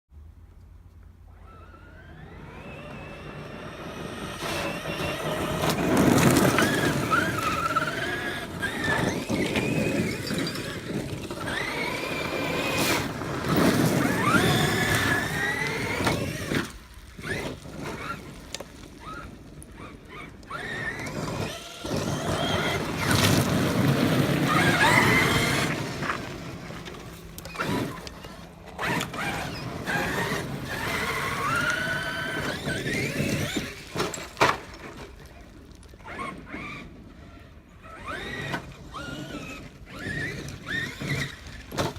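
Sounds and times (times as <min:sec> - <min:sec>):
electric motor whining: 0:01.2 - 0:33.9, 0:37.9 - 0:41.7.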